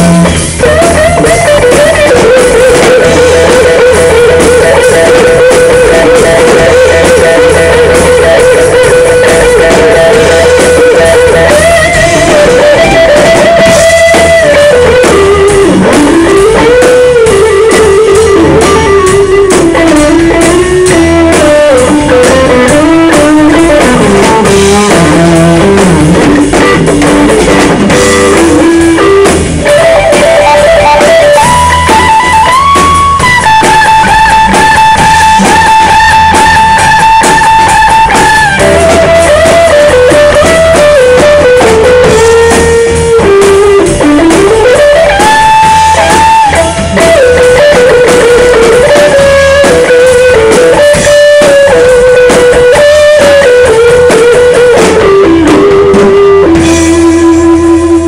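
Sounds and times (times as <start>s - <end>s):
bass guitar: 0.0s - 58.0s
drum kit: 0.0s - 58.0s
electric guitar solo: 0.0s - 58.0s.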